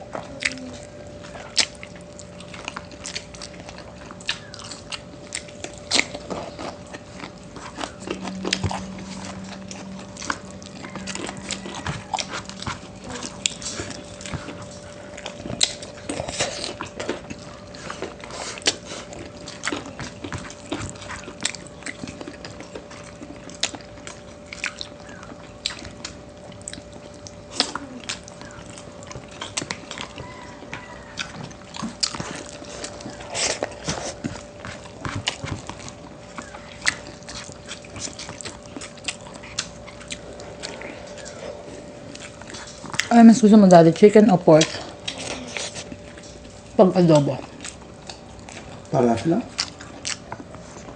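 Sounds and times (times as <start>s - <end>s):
people chewing: 0.0s - 50.9s.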